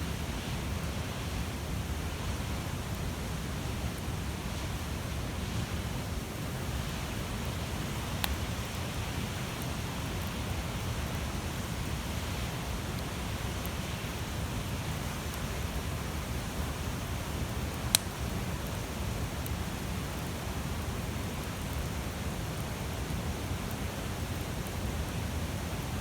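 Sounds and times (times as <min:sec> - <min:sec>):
bonfire flames roaring: 0:00.1 - 0:26.0
fire crackles and pops: 0:00.1 - 0:26.0.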